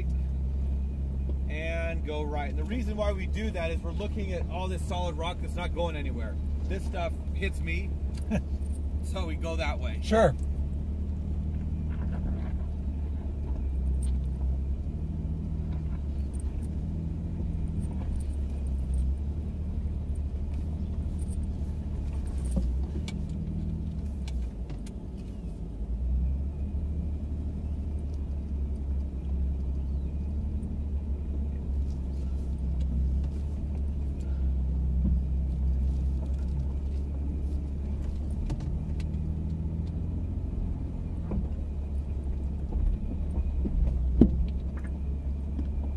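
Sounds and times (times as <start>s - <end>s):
truck engine low rumble: 0.0s - 45.9s.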